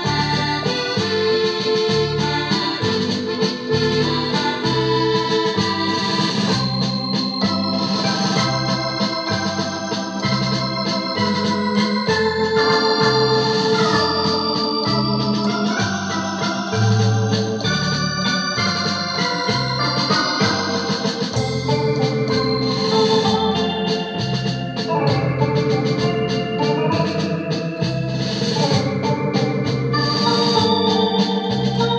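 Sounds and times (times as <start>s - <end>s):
bass line: 0.0s - 31.9s
keyboard organ melody and chords: 0.0s - 31.9s.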